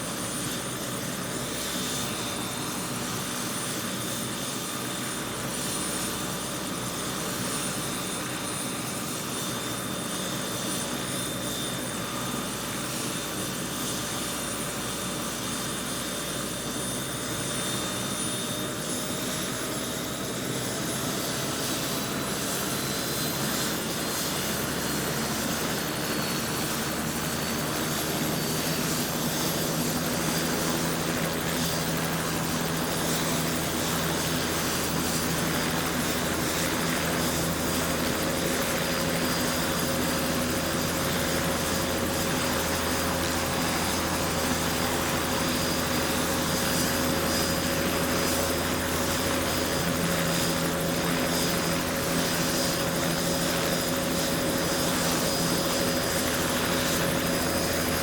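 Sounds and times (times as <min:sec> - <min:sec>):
helicopter rotor and turbine whine: 0:00.0 - 0:58.0.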